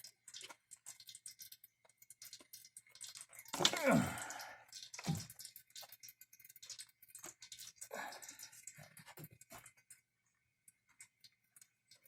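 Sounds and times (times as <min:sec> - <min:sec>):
oil filter squishing and clicking: 0:00.0 - 0:12.0.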